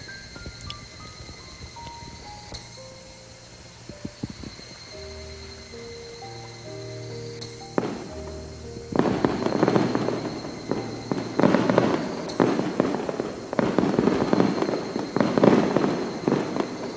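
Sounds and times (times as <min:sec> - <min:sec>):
dense crackling and popping: 0:00.0 - 0:16.9
faint high steady tone: 0:00.0 - 0:16.9.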